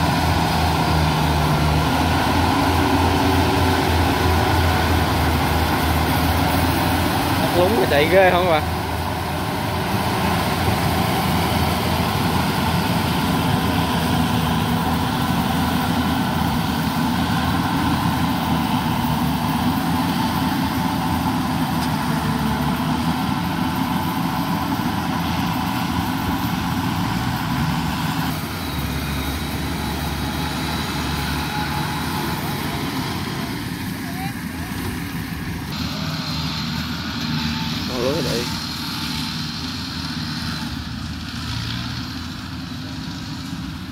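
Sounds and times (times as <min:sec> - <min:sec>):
combine harvester drone: 0:00.0 - 0:43.9.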